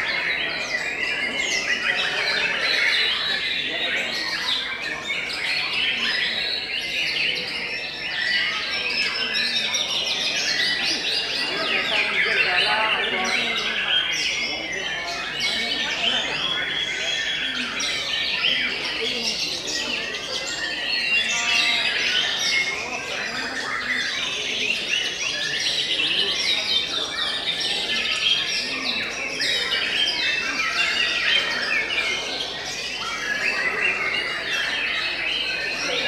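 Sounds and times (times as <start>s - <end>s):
birds singing whistles and trills: 0.0s - 36.0s.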